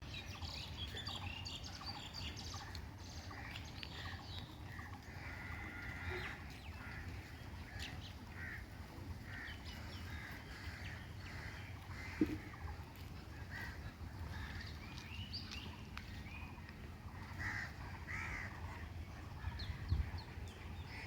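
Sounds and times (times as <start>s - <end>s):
birds chirping and calling: 0.0s - 21.0s
steady low rumble: 0.1s - 21.0s.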